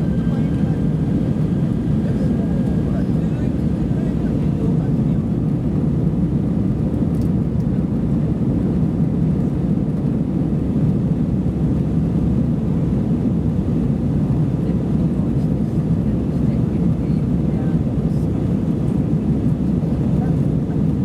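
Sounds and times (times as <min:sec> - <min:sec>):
airliner cabin engine rush: 0:00.0 - 0:21.0.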